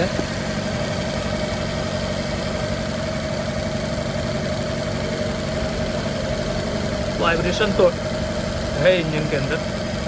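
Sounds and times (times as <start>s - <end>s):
car engine idling unevenly: 0.0s - 10.0s.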